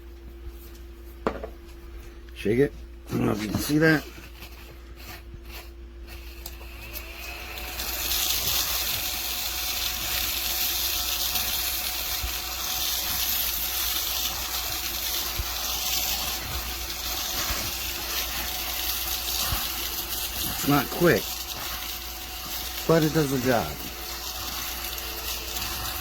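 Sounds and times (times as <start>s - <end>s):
vacuum cleaner whine: 2.6s - 26.0s.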